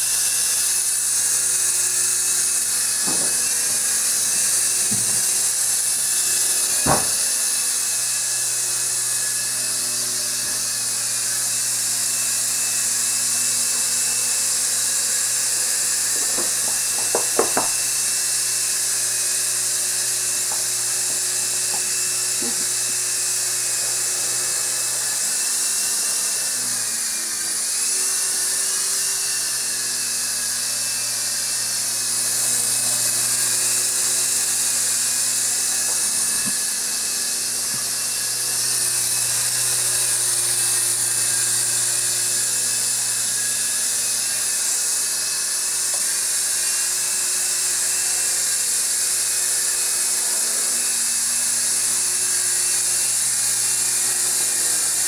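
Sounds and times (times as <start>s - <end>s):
toy helicopter motor whine: 0.0s - 55.0s.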